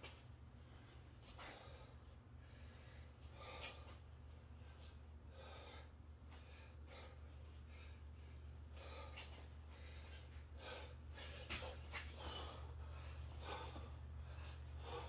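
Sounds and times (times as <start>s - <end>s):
man breathing hard: 0.6s - 15.0s.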